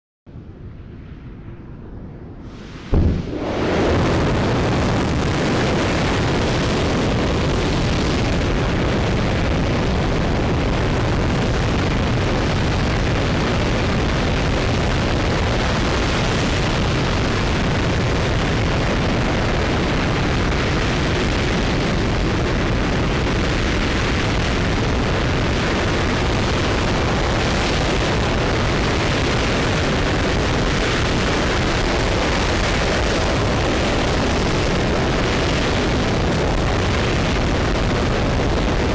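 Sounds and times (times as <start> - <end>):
rocket engine roaring: 0.4 - 38.9.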